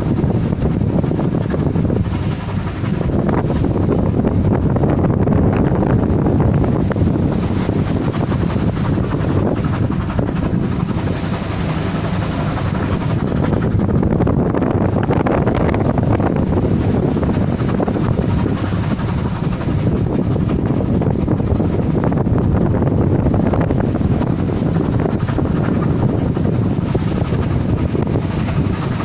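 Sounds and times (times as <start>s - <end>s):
boat engine drone: 0.0s - 29.0s
wind buffeting microphone: 0.0s - 29.0s.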